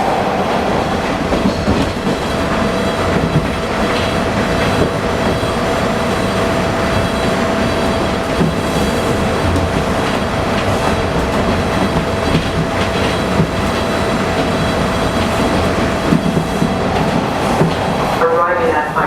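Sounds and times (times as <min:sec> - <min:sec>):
subway car rumble: 0:00.0 - 0:19.0
wheels clicking on track: 0:01.3 - 0:18.3.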